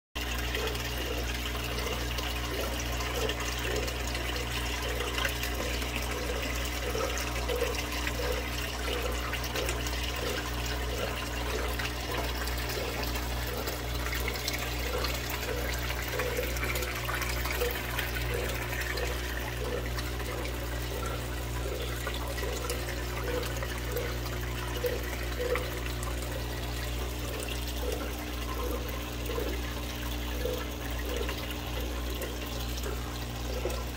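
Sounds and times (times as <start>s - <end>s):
aquarium water bubbling: 0.2s - 33.9s.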